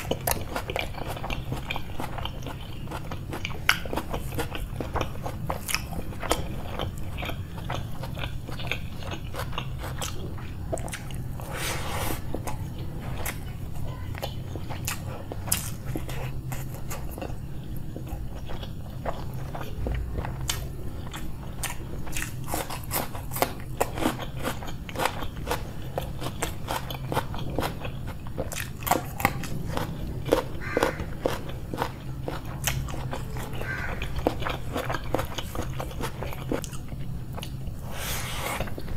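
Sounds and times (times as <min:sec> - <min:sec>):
faint steady hum: 0:00.0 - 0:38.9
person chewing crunchy food: 0:00.0 - 0:38.9.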